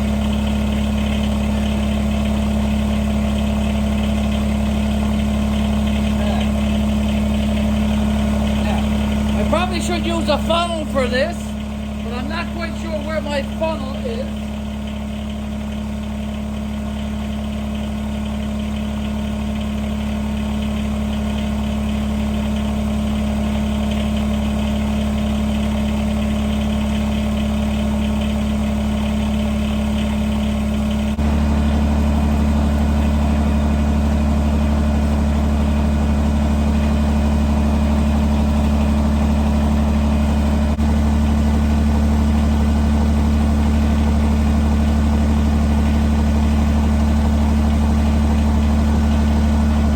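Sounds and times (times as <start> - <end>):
diesel tractor engine idling: 0.0 - 49.9.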